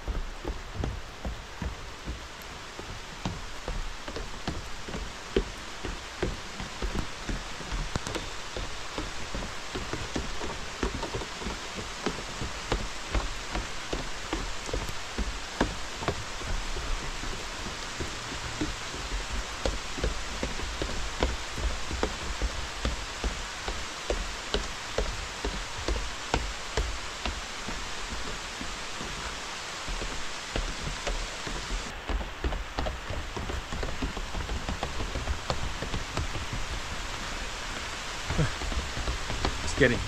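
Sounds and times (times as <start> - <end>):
heavy rain hissing: 0.0 - 40.0
raindrops tapping: 0.0 - 40.0.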